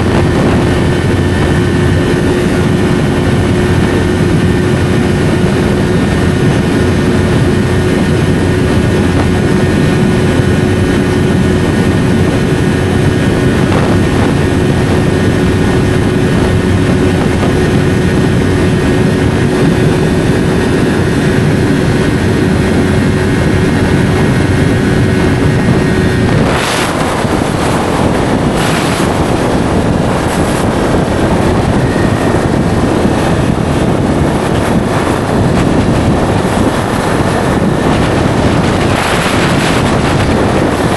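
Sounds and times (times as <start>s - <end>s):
motorcycle engine running: 0.0s - 40.9s
riding wind noise: 0.0s - 40.9s.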